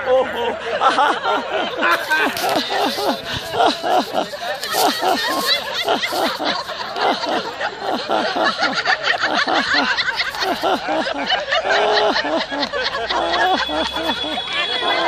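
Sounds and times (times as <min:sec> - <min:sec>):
women laughing: 0:00.0 - 0:15.0.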